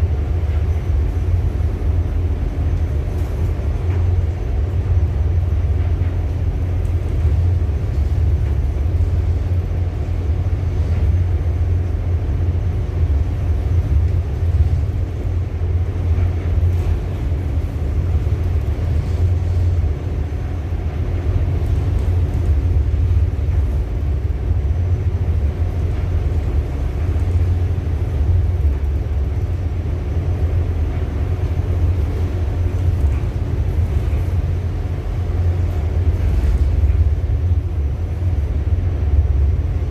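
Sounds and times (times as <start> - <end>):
faint hum tones: 0.0 - 39.9
ship engine droning: 0.0 - 39.9.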